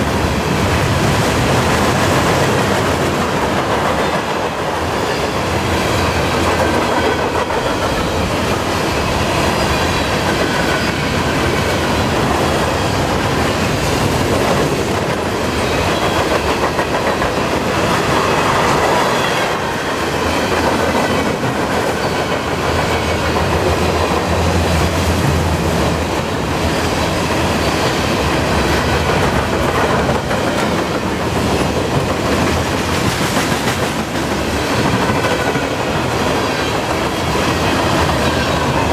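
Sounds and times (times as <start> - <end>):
clickety-clack over rail joints: 0.0 - 38.9
freight train wheels rumbling: 0.0 - 38.9.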